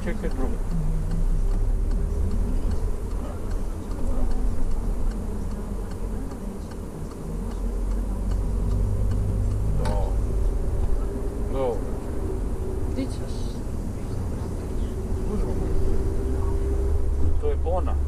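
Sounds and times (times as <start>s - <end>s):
engine hum and road noise: 0.0s - 18.0s
turn signal ticking: 0.0s - 18.0s.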